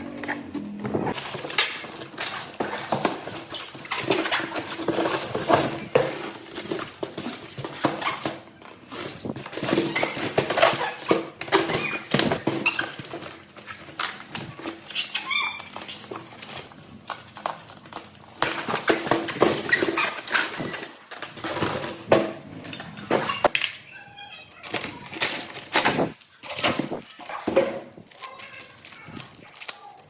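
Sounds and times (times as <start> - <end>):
packaging and plastic parts rustling: 0.0 - 30.0.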